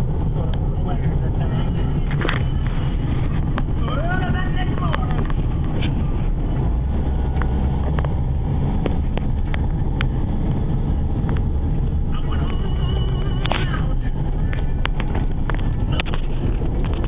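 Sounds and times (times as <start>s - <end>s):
engine and road rumble in car: 0.0s - 17.0s.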